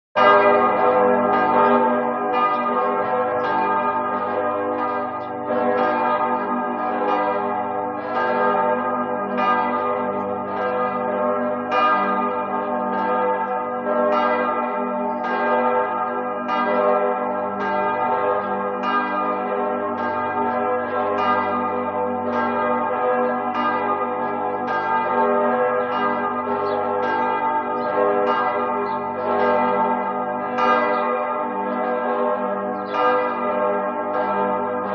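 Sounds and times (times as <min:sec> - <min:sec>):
church bells ringing: 0:00.2 - 0:34.9.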